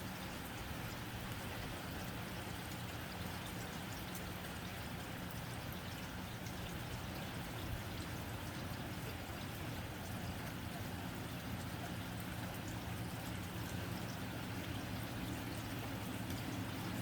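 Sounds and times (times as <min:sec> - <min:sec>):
rain on a tin roof: 0:00.0 - 0:17.0.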